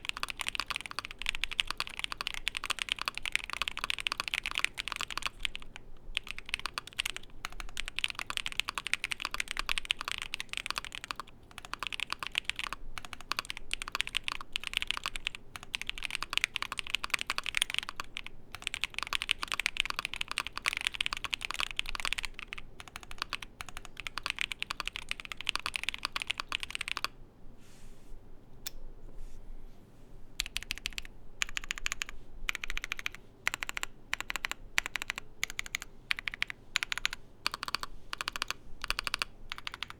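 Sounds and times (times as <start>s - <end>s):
mechanical keyboard typing: 0.0s - 27.2s, 30.4s - 39.9s.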